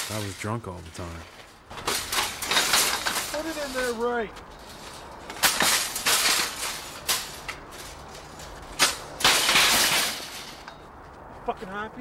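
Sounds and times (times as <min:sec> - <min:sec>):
shopping cart rattling: 0:00.0 - 0:10.6.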